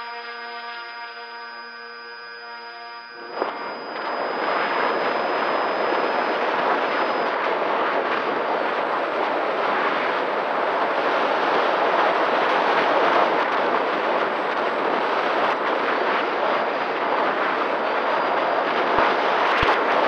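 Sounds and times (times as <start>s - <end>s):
electric motor and propeller hum: 0.0s - 20.0s
wind rushing over microphone: 3.2s - 20.0s.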